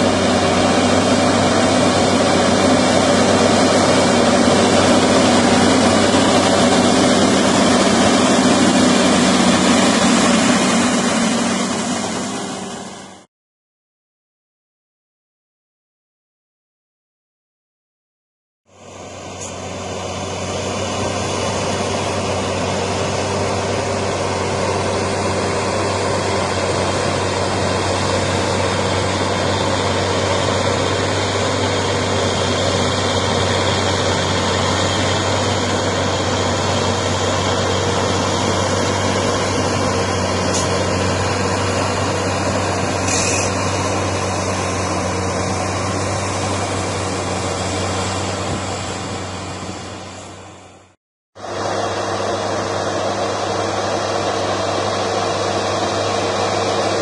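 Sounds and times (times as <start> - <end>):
tractor diesel engine humming: 0.0 - 13.3, 18.7 - 57.0.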